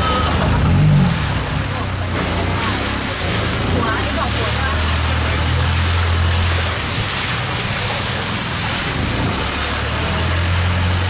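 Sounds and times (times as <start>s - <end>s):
boat engine running: 0.0s - 11.0s
water rushing: 0.0s - 11.0s.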